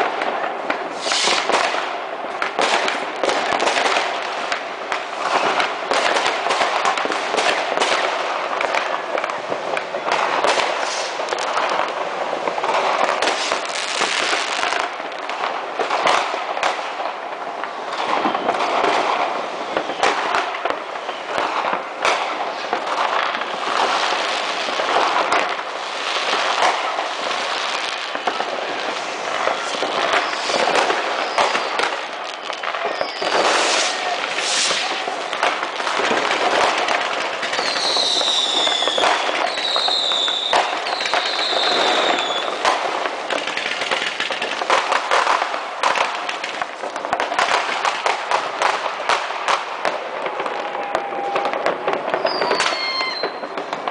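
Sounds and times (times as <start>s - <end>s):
fireworks crackling and banging: 0.0s - 53.9s
whistling fireworks: 0.0s - 53.9s.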